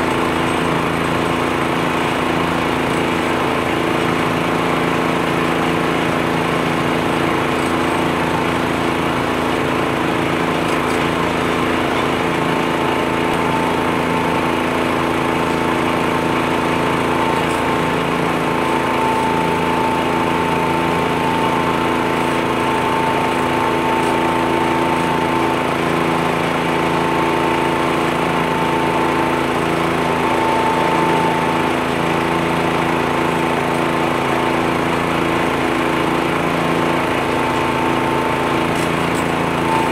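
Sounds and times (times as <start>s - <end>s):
diesel tractor engine: 0.0s - 39.9s
leaf blower running: 0.0s - 39.9s.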